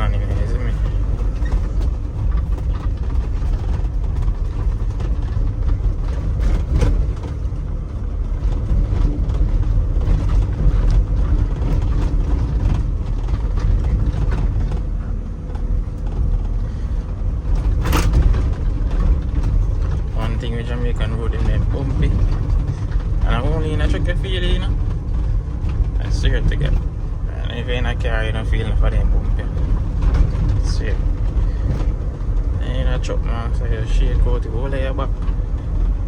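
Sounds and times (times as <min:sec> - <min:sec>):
cab creaking and rattling: 0:00.0 - 0:36.0
truck engine and road rumble: 0:00.0 - 0:36.0.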